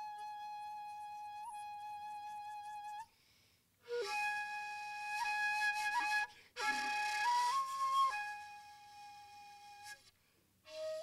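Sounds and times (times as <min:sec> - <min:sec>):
bamboo flute long breathy notes: 0:00.0 - 0:11.0.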